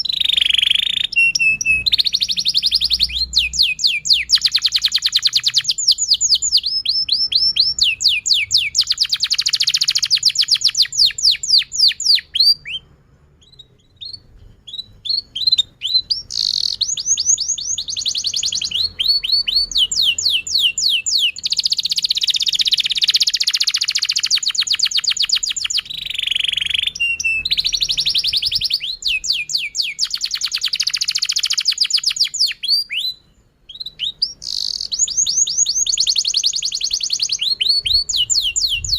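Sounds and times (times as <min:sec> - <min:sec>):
canary chirps: 0:00.0 - 0:38.9
canary singing trills: 0:00.0 - 0:38.9.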